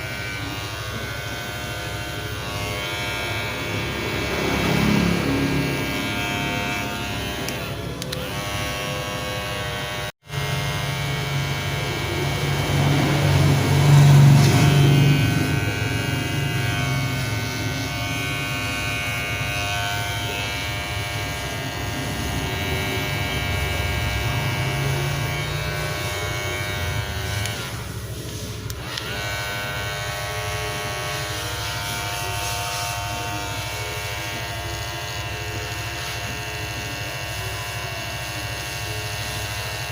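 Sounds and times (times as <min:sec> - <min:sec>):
hair clipper buzzing: 0:00.0 - 0:39.9.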